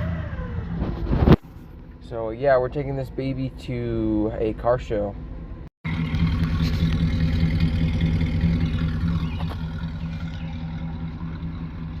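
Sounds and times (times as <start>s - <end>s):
car engine idling: 1.4s - 12.0s.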